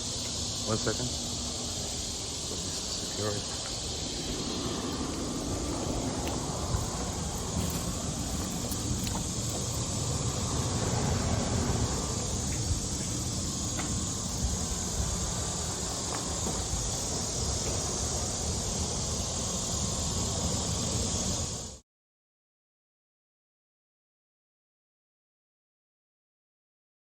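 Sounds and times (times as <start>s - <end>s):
steady rushing noise: 0.0s - 21.8s.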